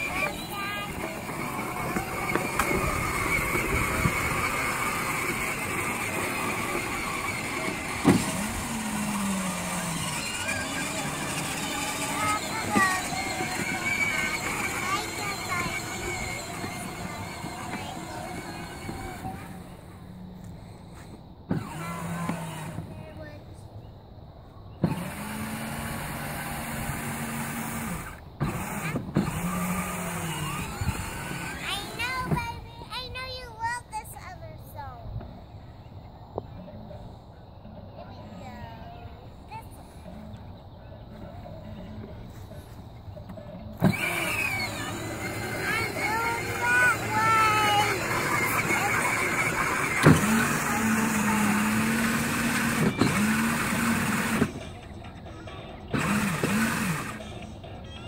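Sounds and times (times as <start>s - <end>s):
electric toy car motor whine: 0.0s - 23.4s, 24.8s - 32.4s, 41.0s - 57.7s
plastic wheels rustling on grass: 0.0s - 23.6s, 24.8s - 35.4s, 41.1s - 54.6s.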